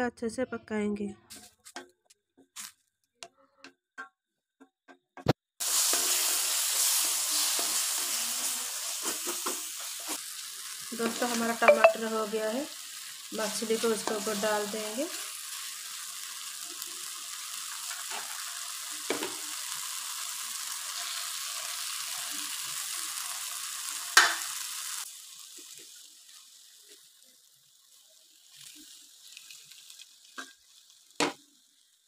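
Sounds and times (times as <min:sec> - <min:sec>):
masala sizzling in a hot pan: 0:05.6 - 0:32.0.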